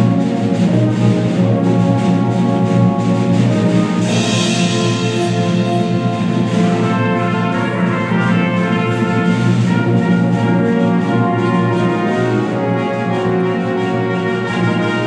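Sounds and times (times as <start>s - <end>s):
orchestra with brass playing: 0.0s - 15.0s.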